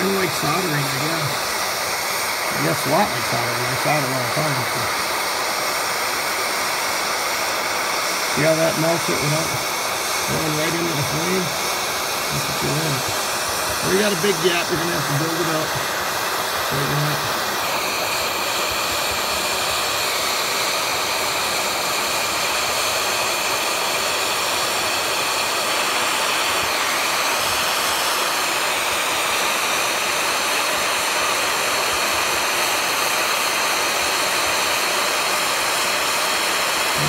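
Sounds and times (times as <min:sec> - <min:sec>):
propane torch hissing: 0:00.0 - 0:37.0.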